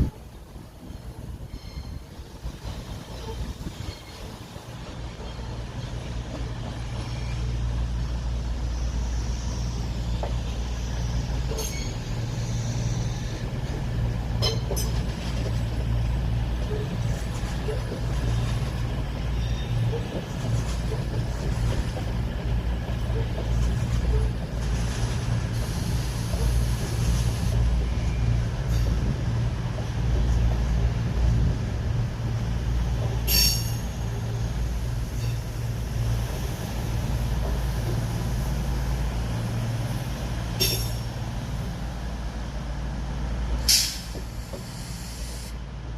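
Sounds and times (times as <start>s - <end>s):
train rumble: 0.0s - 45.9s.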